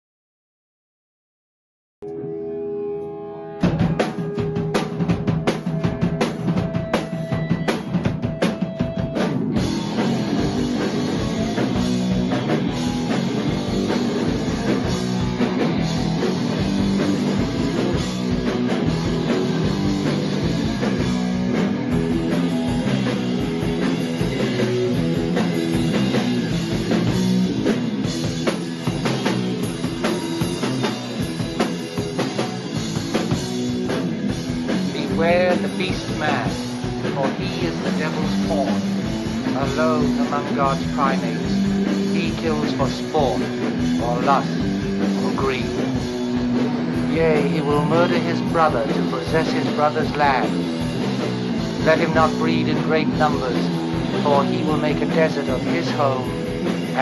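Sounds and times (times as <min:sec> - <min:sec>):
rock band playing: 0:02.0 - 0:57.0
drum kit hits: 0:03.6 - 0:57.0.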